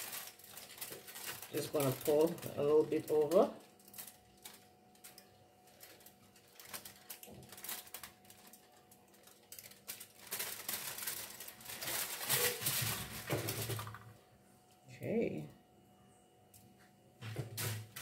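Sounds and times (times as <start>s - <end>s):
aluminium foil crinkling: 0.0s - 14.2s, 17.4s - 18.0s.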